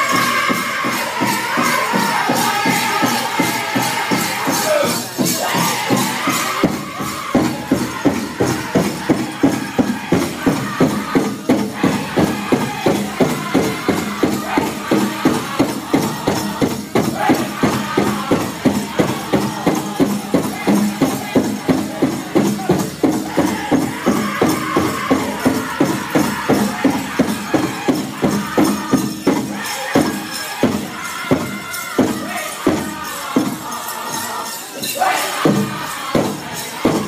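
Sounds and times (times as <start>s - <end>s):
big drum beating: 0.0s - 33.7s, 35.2s - 37.0s
drum group singing: 0.0s - 37.0s
jingling leg bells: 0.0s - 37.0s.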